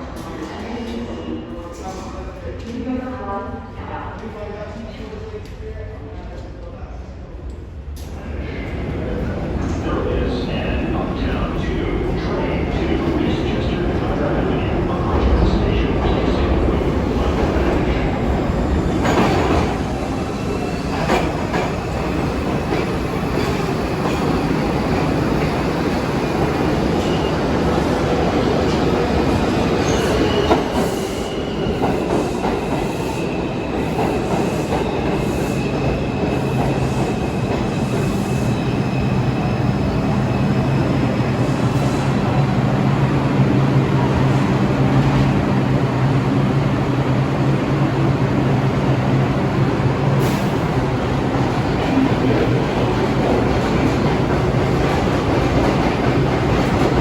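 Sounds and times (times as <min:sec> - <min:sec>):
subway train rumble: 0:00.0 - 0:57.0.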